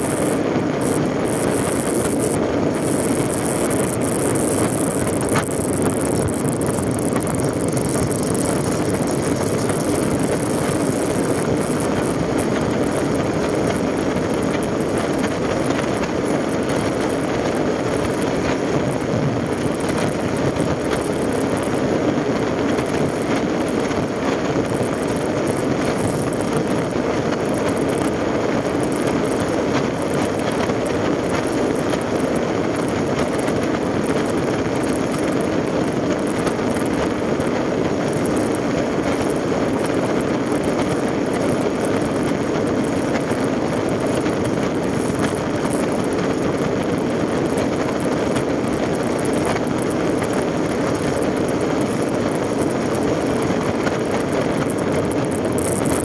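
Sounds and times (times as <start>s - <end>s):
motorcycle engine running: 0.0s - 56.0s
road noise: 0.0s - 56.0s
wind rushing over microphone: 0.0s - 56.0s.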